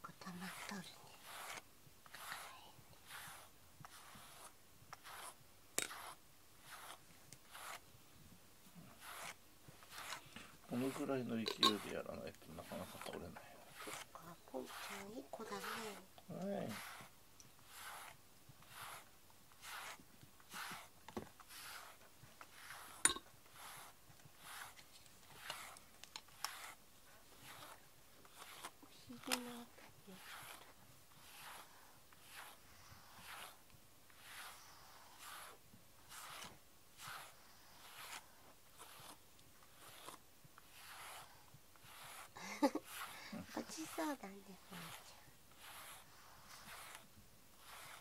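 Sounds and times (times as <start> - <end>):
brush swishing through fur: 0.0 - 48.0.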